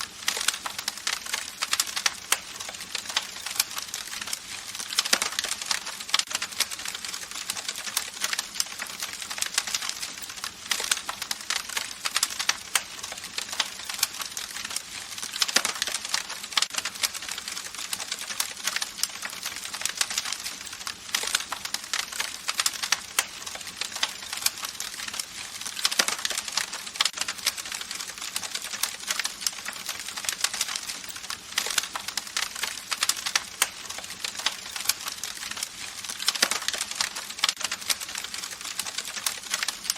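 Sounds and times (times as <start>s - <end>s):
campfire crackling and popping: 0.0s - 39.9s
soft hiss of burning wood: 0.0s - 39.9s.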